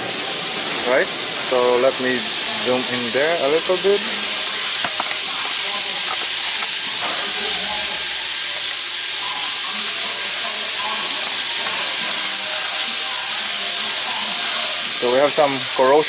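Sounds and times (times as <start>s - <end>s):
faint voices: 0.0s - 16.0s
steady loud hiss: 0.0s - 16.0s.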